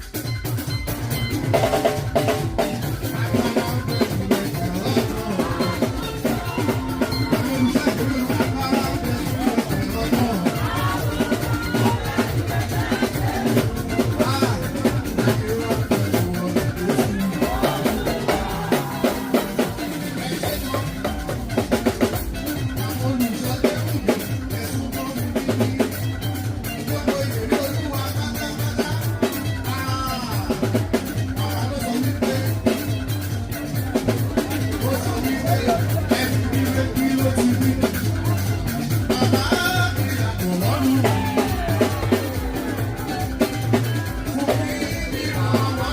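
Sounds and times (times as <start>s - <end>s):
drum kit fast beat: 0.0s - 45.9s
low bass line: 0.7s - 45.9s.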